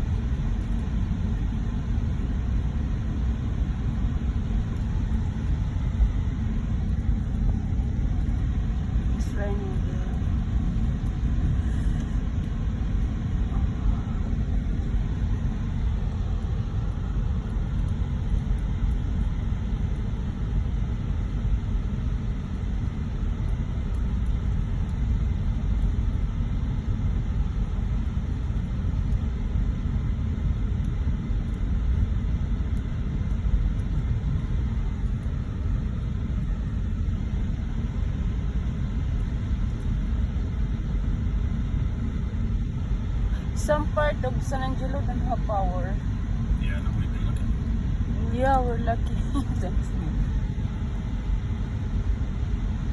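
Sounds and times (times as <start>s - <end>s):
car driving low rumble: 0.0s - 52.9s.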